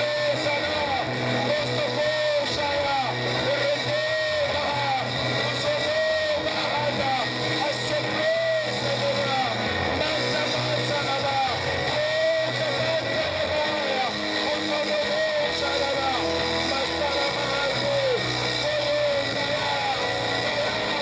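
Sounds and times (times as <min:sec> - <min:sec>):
bass and instrumental backing: 0:00.0 - 0:21.0
person singing: 0:00.0 - 0:21.0.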